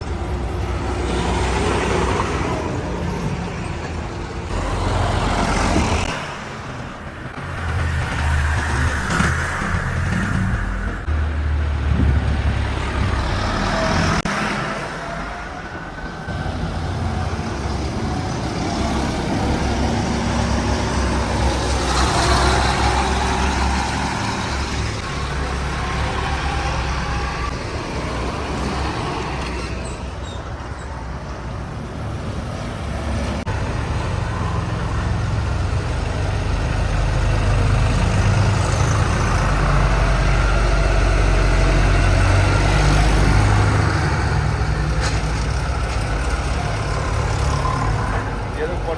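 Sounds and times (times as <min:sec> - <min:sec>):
road noise: 0:00.0 - 0:48.9
tractor engines droning: 0:00.0 - 0:48.9.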